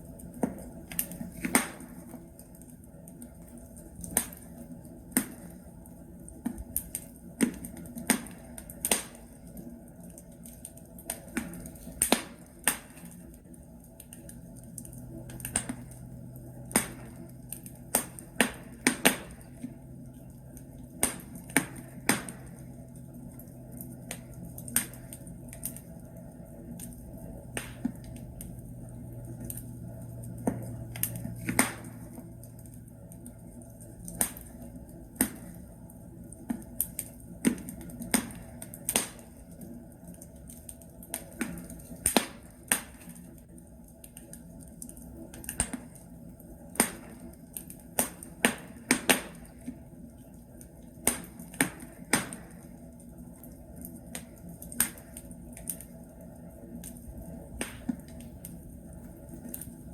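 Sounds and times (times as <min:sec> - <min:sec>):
logs crackling in fireplace: 0:00.0 - 0:59.9
low steady hum: 0:00.0 - 0:59.9.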